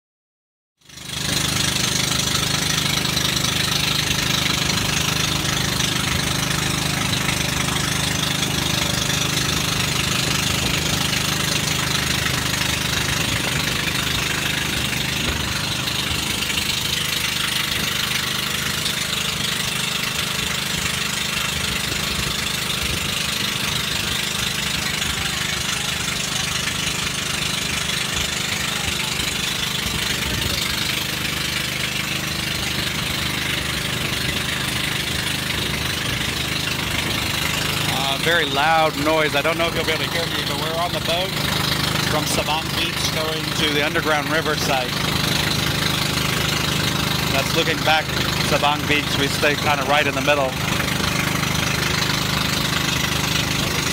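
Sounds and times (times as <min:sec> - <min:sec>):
loud boat engine running: 0:00.8 - 0:53.9.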